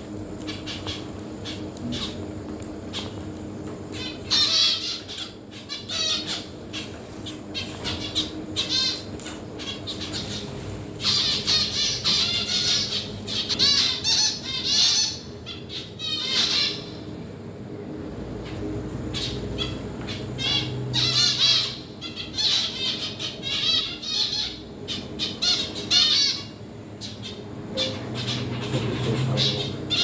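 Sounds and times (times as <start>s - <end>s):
birds chattering and squawking: 0.0s - 30.0s.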